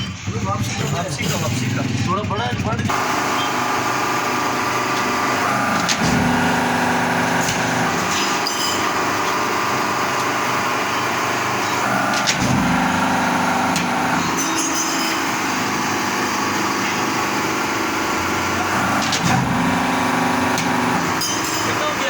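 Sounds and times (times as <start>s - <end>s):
metal lathe running: 2.9s - 22.0s.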